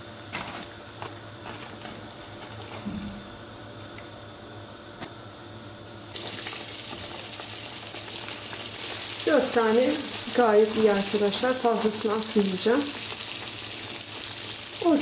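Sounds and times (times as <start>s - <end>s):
oil sizzling in frying pan: 0.3s - 4.3s, 5.9s - 15.0s.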